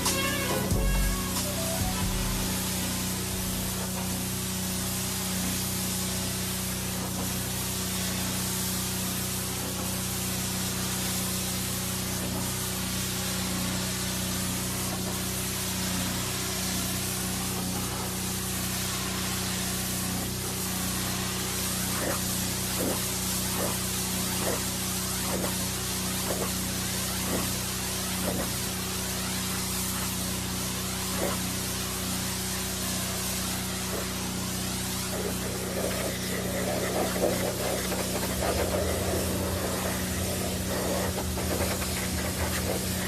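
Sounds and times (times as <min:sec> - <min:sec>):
high-pressure spray hissing: 0:00.0 - 0:43.0
pressure washer motor hum: 0:00.0 - 0:43.0.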